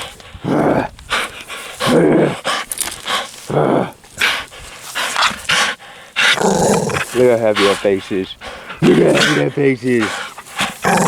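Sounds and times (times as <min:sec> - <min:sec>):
dog vocalising: 0:00.0 - 0:11.0.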